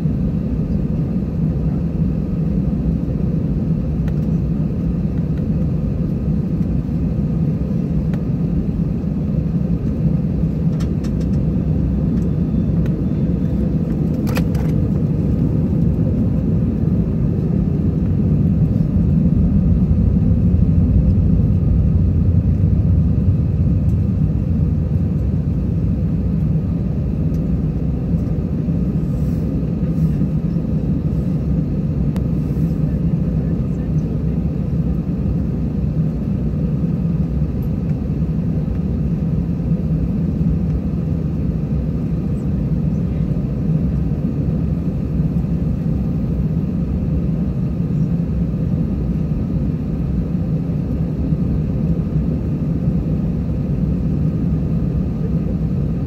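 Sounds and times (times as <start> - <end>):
jet engines idling in cabin: 0.0 - 56.0.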